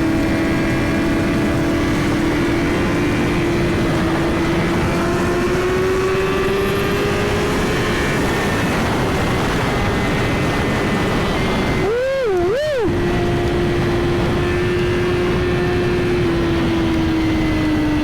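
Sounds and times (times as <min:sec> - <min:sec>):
motorcycle engine at speed: 0:00.0 - 0:18.0
wind noise: 0:00.0 - 0:18.0.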